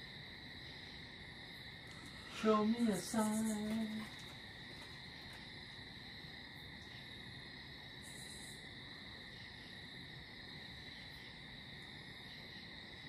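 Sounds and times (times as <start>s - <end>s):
crickets chirring: 0.0s - 13.0s
low background hiss: 0.0s - 13.0s.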